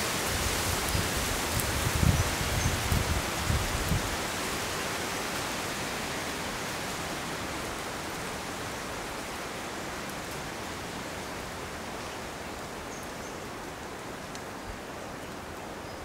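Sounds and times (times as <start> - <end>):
wind rustling leaves: 0.0 - 16.0.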